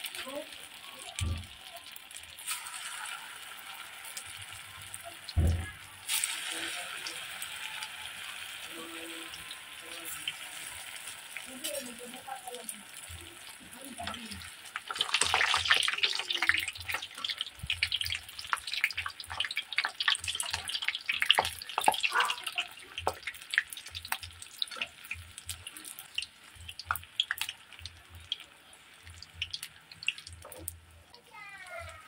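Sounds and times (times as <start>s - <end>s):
oil sizzling and popping: 0.0s - 32.0s.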